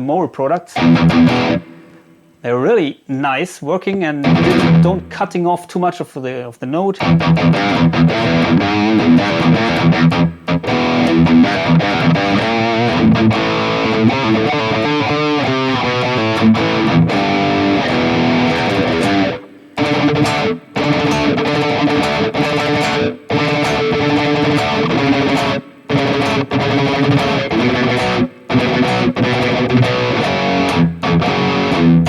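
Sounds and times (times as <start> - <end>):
distorted electric guitar riffing: 0.8 - 2.3, 4.2 - 5.2, 7.0 - 32.0.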